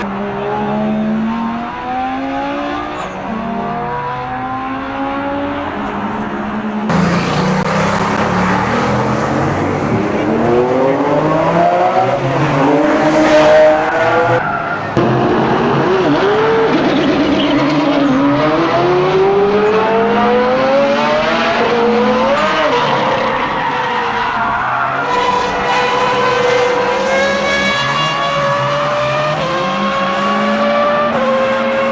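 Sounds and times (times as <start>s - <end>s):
car engine revving: 0.0s - 31.9s
tyres squealing and skidding: 2.2s - 3.4s, 6.9s - 31.9s.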